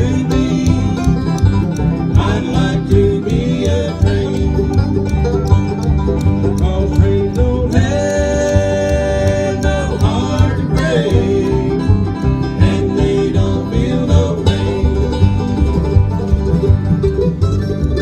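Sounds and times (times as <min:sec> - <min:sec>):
bluegrass band playing: 0:00.0 - 0:18.0.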